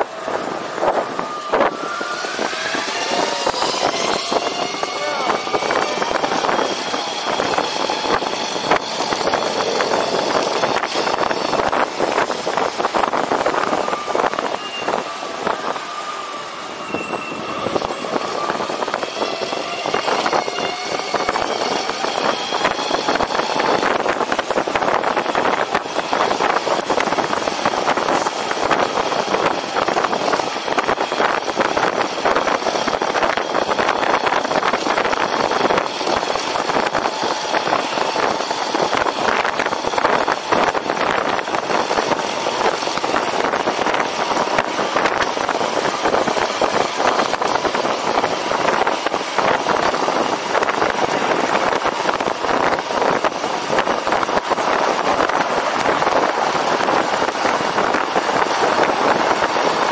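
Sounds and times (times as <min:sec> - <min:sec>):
rushing riding noise: 0:00.0 - 0:59.9.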